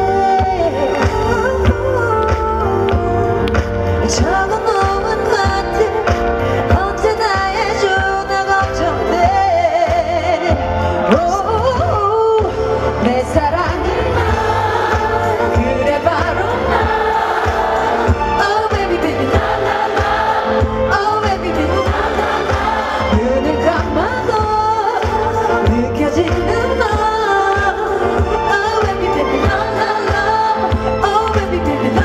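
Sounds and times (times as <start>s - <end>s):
band playing with steady beat: 0.0s - 32.0s
woman singing into microphone: 0.0s - 32.0s.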